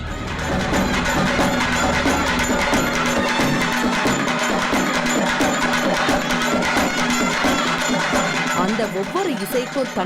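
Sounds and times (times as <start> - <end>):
fast dense drumming: 0.0 - 10.0.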